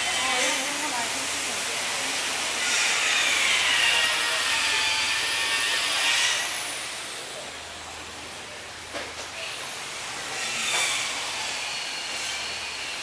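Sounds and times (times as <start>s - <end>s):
loud mechanical whirring: 0.0s - 8.2s, 8.8s - 13.0s.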